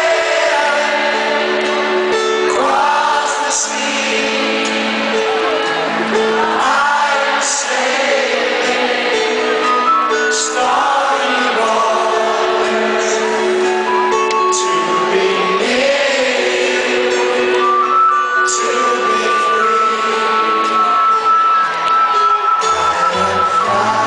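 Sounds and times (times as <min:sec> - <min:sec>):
live band music: 0:00.0 - 0:08.0, 0:08.7 - 0:24.0
person singing: 0:00.0 - 0:21.3, 0:22.6 - 0:24.0.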